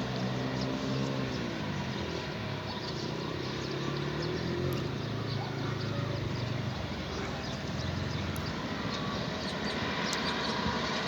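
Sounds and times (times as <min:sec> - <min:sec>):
vehicle engine humming past: 0:00.0 - 0:11.0.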